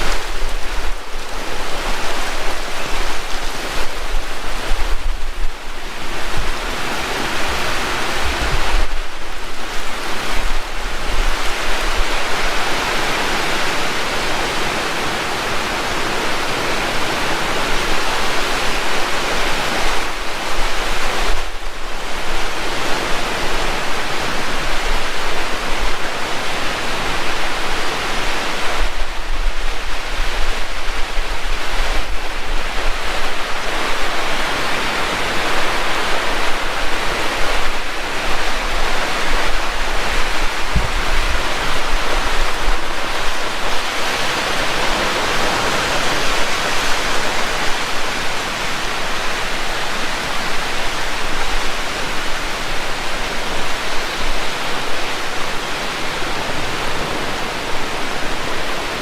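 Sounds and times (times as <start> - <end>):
heavy rain pouring: 0.0 - 59.0
wind rumble on microphone: 0.0 - 59.0.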